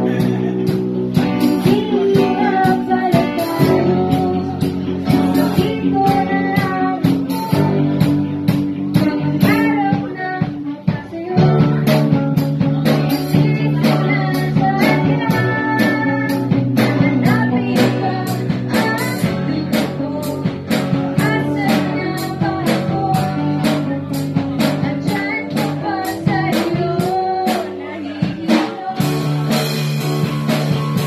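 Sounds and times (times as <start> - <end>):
woman singing: 0.0 - 29.8
bass guitar: 0.0 - 31.0
drums: 0.0 - 31.0
electric guitar: 0.0 - 31.0.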